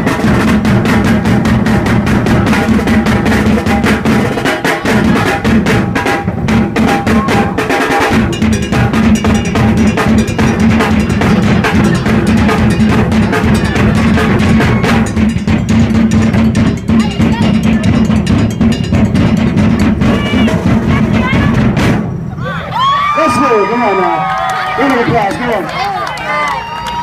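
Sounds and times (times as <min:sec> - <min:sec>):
fast snare and bass drum beats: 0:00.0 - 0:22.3, 0:24.8 - 0:25.8.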